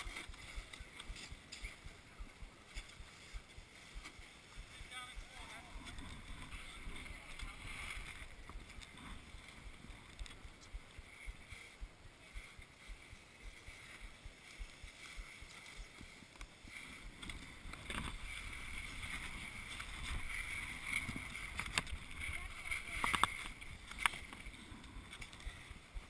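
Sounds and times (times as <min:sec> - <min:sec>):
skis scraping on snow: 0:00.0 - 0:26.0
wind on camera microphone: 0:00.0 - 0:26.0.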